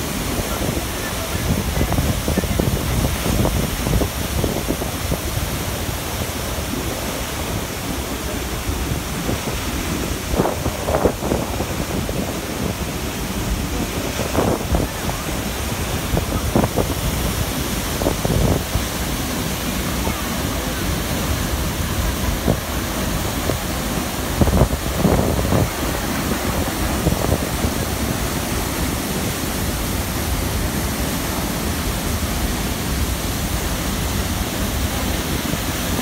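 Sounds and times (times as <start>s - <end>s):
wind buffeting microphone: 0.0s - 32.0s
waterfall roaring: 0.0s - 36.0s.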